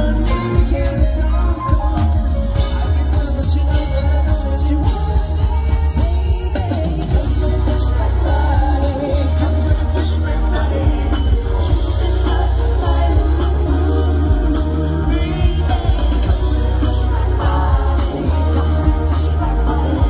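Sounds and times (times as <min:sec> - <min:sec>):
live pop band: 0:00.0 - 0:20.0
man singing into a microphone: 0:00.0 - 0:20.0.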